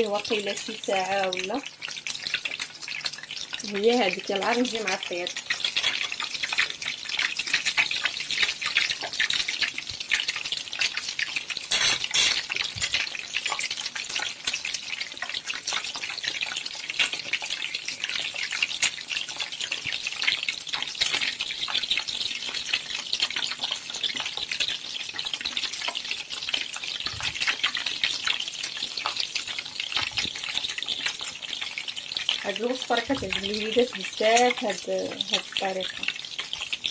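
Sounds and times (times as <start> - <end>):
oil sizzling and crackling: 0.0 - 36.9.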